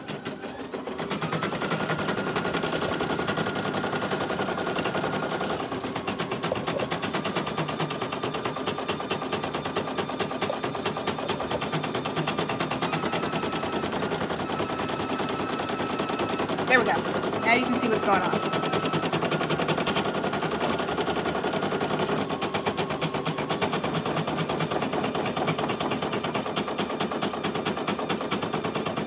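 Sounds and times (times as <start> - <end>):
embroidery machine stitching: 0.0 - 29.0.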